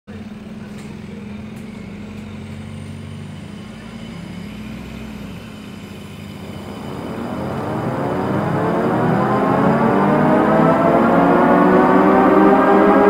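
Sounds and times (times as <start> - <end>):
minibus engine humming: 0.1 - 13.0
faint high whine: 0.2 - 13.0.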